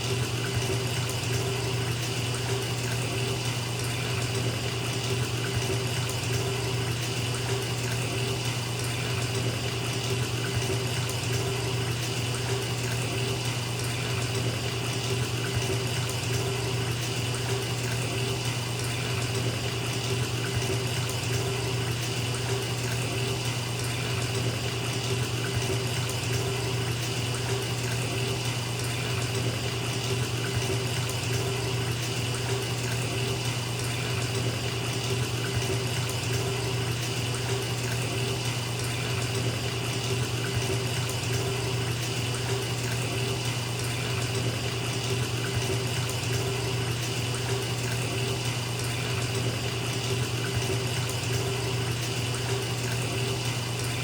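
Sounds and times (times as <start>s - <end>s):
bathtub tap running water: 0.0s - 54.0s.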